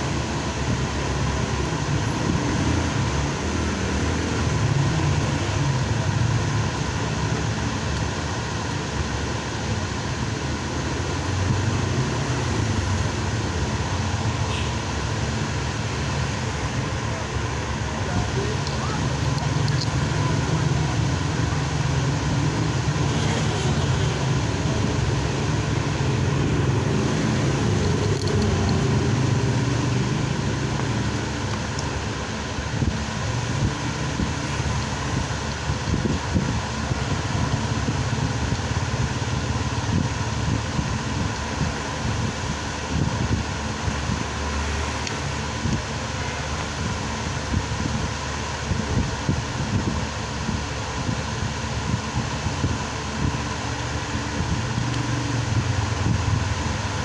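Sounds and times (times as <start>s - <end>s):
steady background noise: 0.0s - 57.0s.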